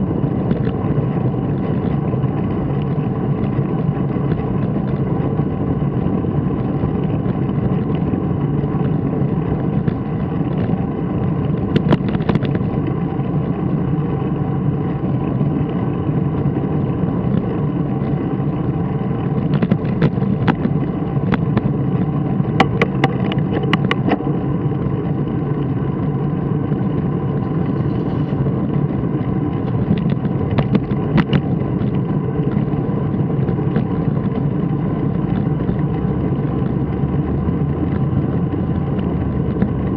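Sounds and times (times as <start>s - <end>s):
vehicle ride noise drone: 0.0s - 39.9s.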